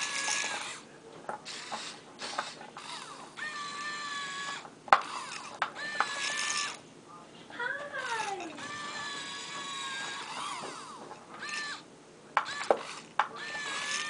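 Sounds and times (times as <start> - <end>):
small electric motors whining: 0.0 - 0.8, 1.5 - 6.8, 7.8 - 11.8, 12.4 - 14.0.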